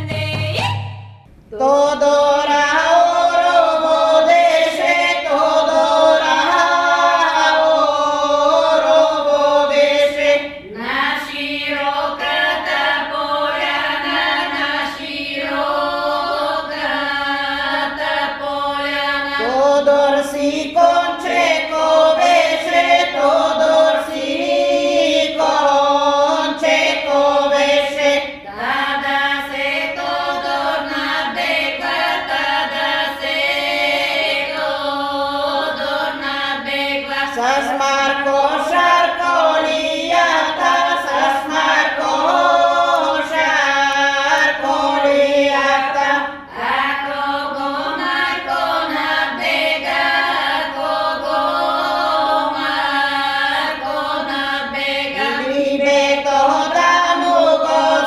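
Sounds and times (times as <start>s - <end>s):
women singing a folk song: 2.4s - 58.0s.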